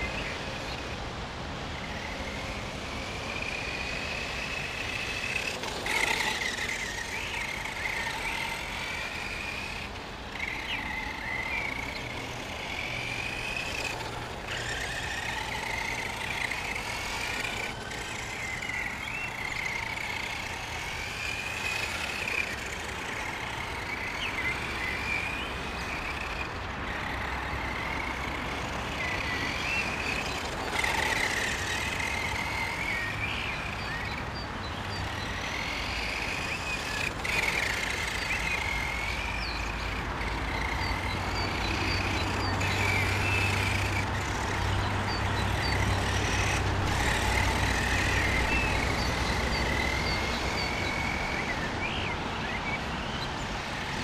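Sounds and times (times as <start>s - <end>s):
electric toy truck motor whining: 0.0s - 54.0s.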